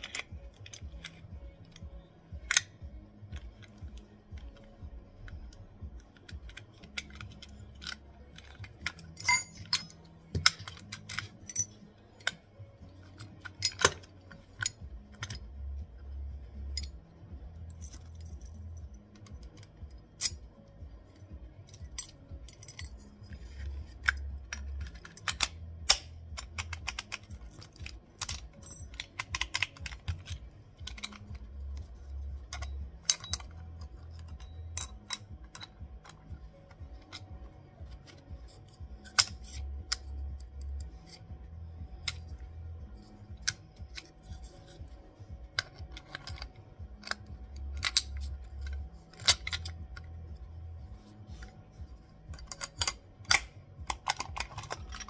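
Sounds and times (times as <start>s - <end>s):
metal lock parts clicking: 0.0s - 55.0s.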